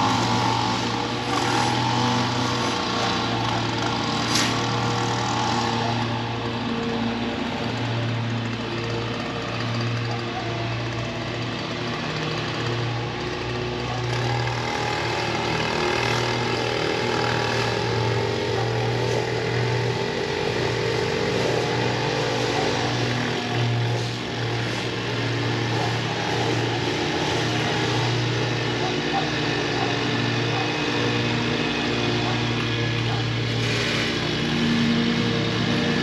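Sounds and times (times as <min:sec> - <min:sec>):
small gasoline engines running: 0:00.0 - 0:36.0.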